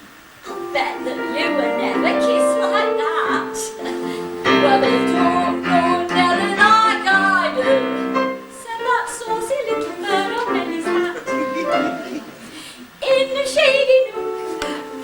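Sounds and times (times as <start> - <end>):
piano accompaniment: 0.4 - 12.6, 13.4 - 15.0
person singing: 0.5 - 15.0.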